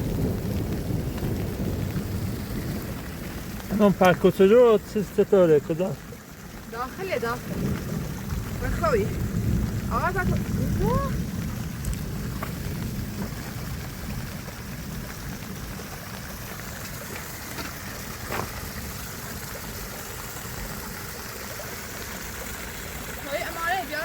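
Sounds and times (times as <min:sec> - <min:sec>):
river rushing: 0:02.8 - 0:24.0.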